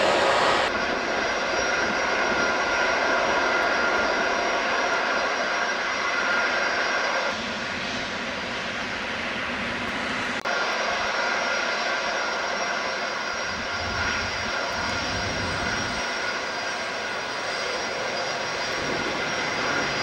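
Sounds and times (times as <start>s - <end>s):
jet engines with turbine whine: 0.0s - 20.0s.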